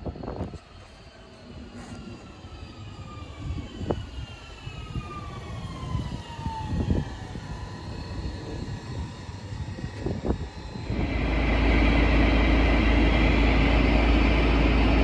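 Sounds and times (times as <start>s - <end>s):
train whine falling in pitch: 0.0s - 15.0s.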